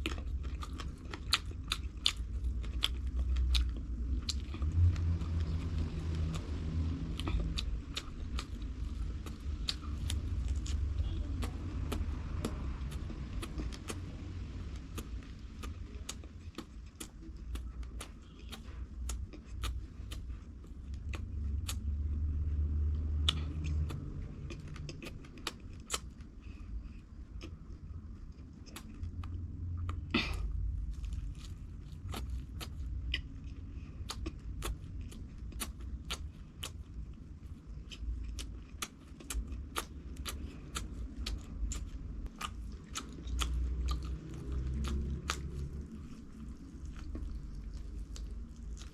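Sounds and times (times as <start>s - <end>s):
low rumble: 0.0s - 48.9s
person chewing food: 0.0s - 48.9s.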